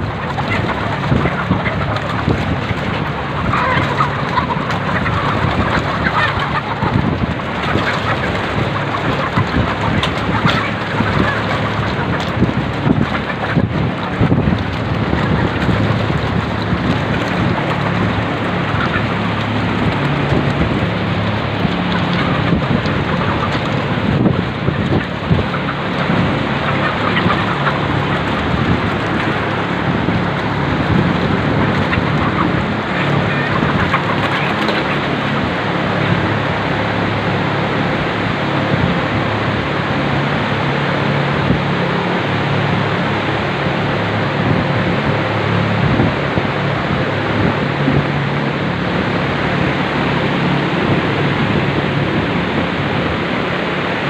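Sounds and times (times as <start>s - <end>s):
hens clucking and calling: 0.0s - 54.0s.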